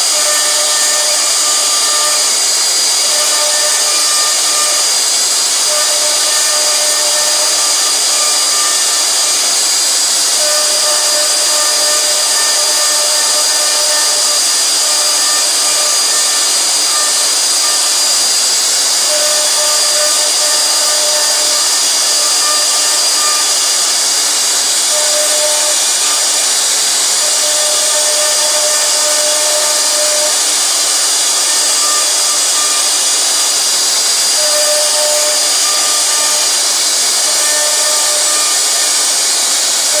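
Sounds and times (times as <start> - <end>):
bit cutting wood: 0.0 - 40.0
router spindle high whine: 0.0 - 40.0.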